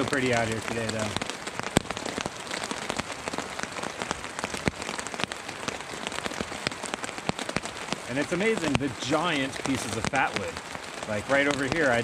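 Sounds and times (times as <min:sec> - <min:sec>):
rain hiss: 0:00.0 - 0:12.0
raindrops tapping on tarp: 0:00.0 - 0:12.0.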